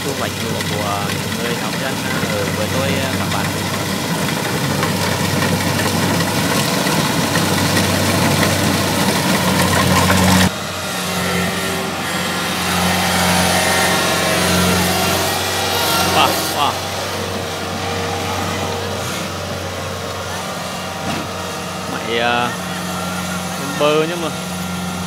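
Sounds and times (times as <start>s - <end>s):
diesel engine drone: 0.0s - 25.0s.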